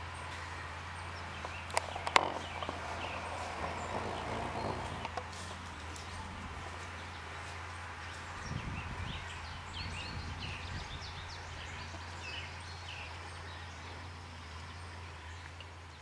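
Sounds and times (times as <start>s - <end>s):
birds chirping: 0.0s - 16.0s
low steady hum: 0.0s - 16.0s.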